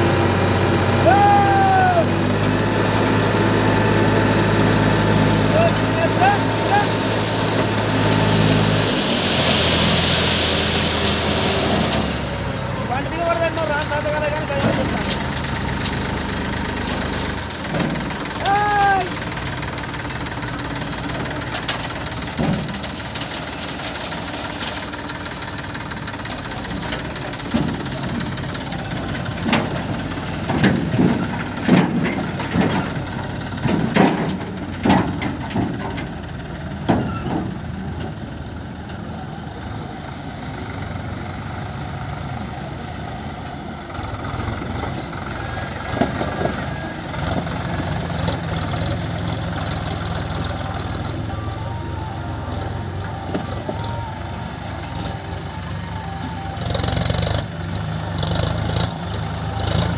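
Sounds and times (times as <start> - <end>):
tractor diesel engine running: 0.0 - 59.9
loud engine knocks and clatter: 2.1 - 39.1, 43.2 - 54.2, 54.8 - 59.9.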